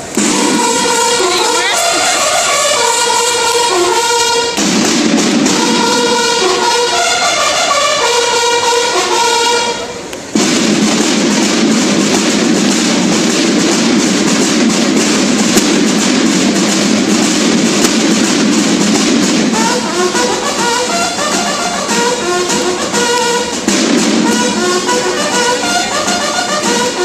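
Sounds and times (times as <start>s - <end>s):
bugles playing: 0.0s - 27.0s
drums rolling fast: 0.0s - 27.0s.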